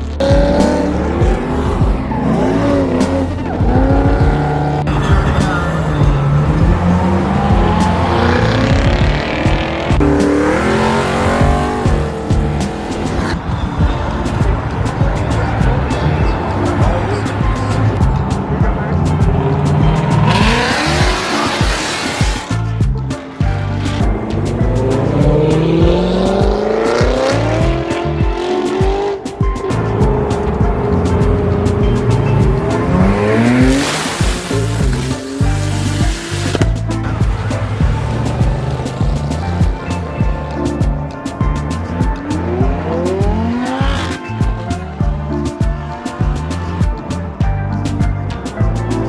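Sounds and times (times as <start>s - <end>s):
car engine revving: 0.0s - 49.0s
music with heavy bass beat: 0.0s - 49.0s.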